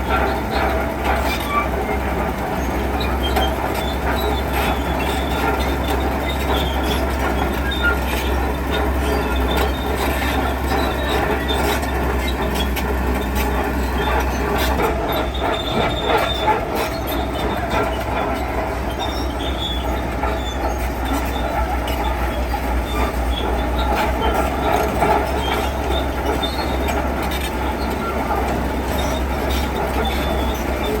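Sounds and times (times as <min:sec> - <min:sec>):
metallic squealing and clanking: 0:00.0 - 0:31.0.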